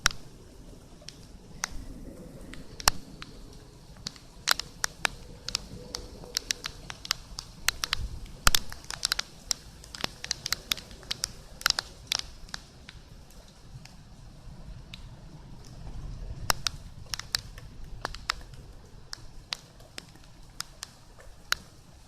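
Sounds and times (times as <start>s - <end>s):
raindrops tapping on hard surface: 0.0s - 0.4s, 1.0s - 14.2s, 14.8s - 22.0s
faint rain: 0.0s - 22.0s.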